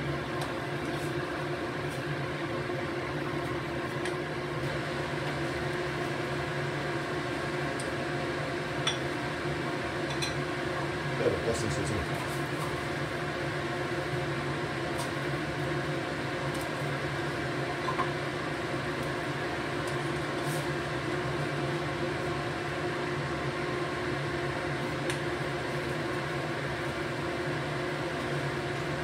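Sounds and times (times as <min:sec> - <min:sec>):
gas stove hum and hiss: 0:00.0 - 0:29.0
soup boiling in saucepan: 0:00.0 - 0:29.0.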